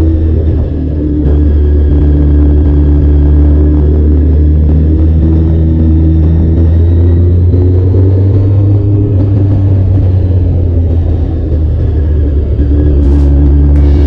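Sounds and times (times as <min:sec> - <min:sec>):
motorcycle engine rumbling: 0:00.0 - 0:14.0
wind noise on microphone: 0:00.0 - 0:14.0.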